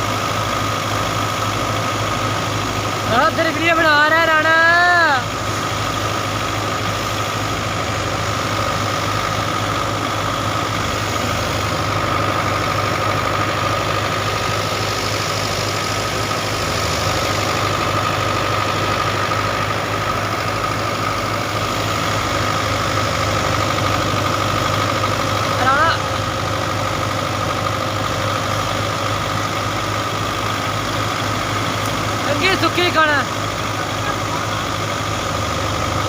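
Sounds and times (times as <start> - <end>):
high engine whine: 0.0 - 36.0
tractor engine running: 0.0 - 36.0.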